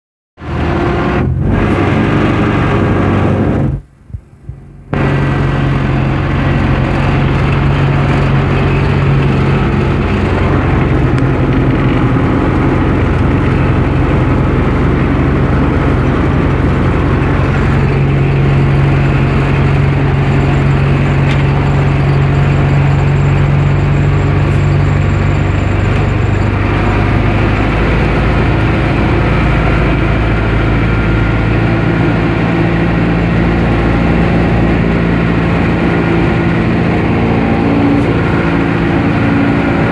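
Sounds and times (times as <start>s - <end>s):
tractor diesel engine running: 0.4s - 39.9s.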